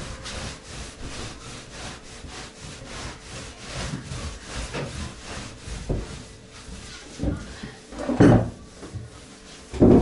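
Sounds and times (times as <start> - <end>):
wet mop scrubbing wooden floor: 0.0 - 10.0.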